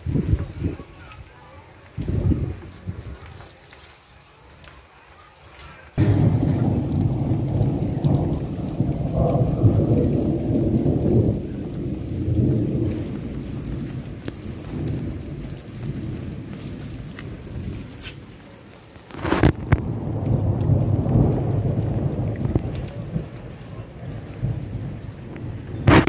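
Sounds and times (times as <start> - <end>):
thunder rumbling: 0.0 - 3.6, 5.9 - 26.0.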